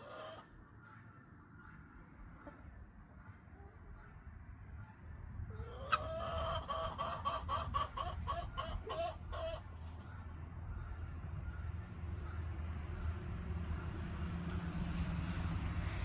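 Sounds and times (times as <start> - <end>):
chicken clucking: 0.0 - 4.2, 4.8 - 14.6.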